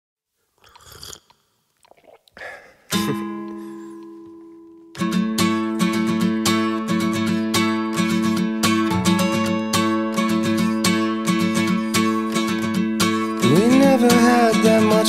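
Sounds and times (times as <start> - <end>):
acoustic guitar chord ringing: 2.9 - 15.0
rhythmic guitar strumming: 2.9 - 15.0.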